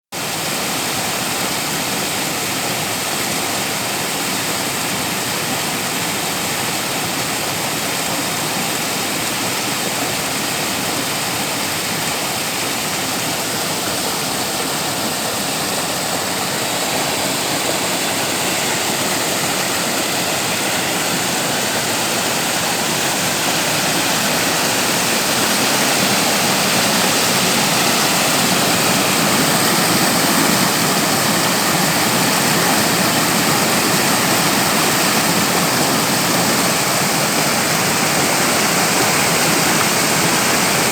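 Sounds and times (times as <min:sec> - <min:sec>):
stream water flowing: 0:00.2 - 0:40.9.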